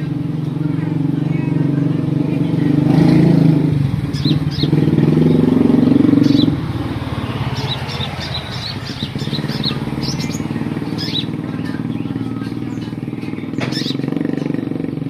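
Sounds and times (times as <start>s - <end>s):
motor engine running: 0.0s - 15.0s
songbird chirping: 0.0s - 15.0s.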